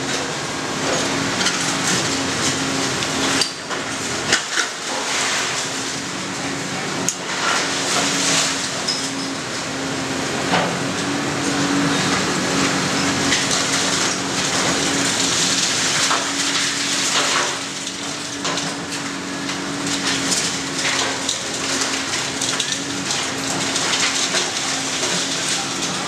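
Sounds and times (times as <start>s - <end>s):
concrete debris crunching and clattering: 0.0s - 9.7s, 10.5s - 26.0s
excavator engine humming: 0.0s - 26.0s.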